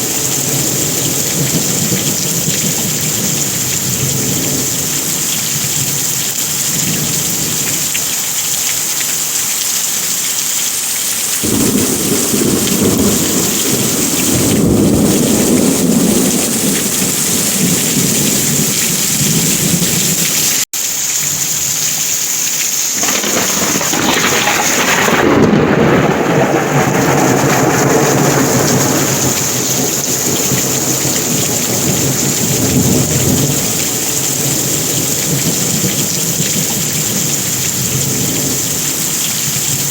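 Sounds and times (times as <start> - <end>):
thunder rumbling: 0.0 - 7.9, 11.4 - 20.6, 23.0 - 39.9
heavy rain falling: 0.0 - 39.9.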